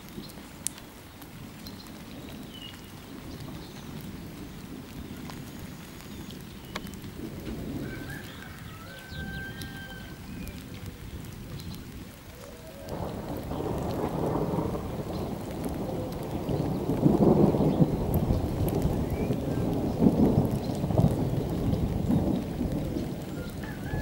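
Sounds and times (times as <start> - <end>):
rain falling: 0.0 - 24.0
thunder rumbling: 0.2 - 24.0.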